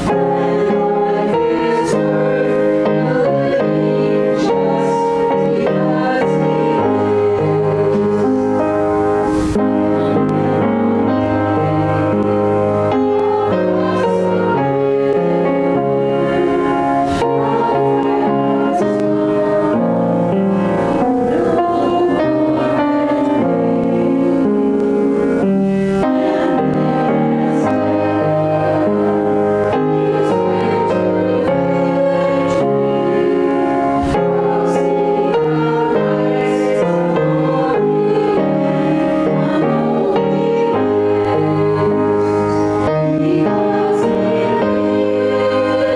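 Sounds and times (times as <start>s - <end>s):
piano accompaniment: 0.0s - 45.9s
women singing a hymn: 0.0s - 45.9s.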